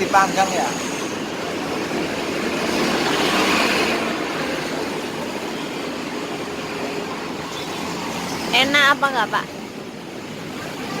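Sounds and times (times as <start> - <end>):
passing traffic rush: 0.0 - 11.0.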